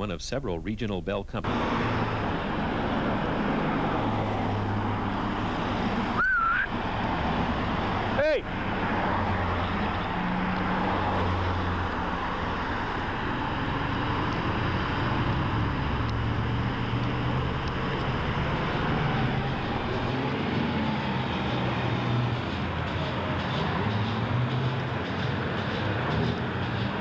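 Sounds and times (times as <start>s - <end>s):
large engine humming: 1.1s - 27.0s.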